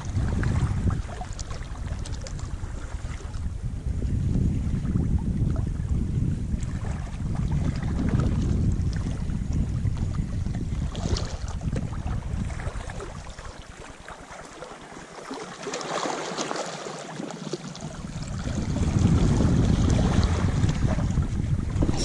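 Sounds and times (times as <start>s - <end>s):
small waves lapping: 0.0s - 3.5s, 6.6s - 22.0s
wind buffeting microphone: 0.0s - 14.2s, 17.8s - 22.0s.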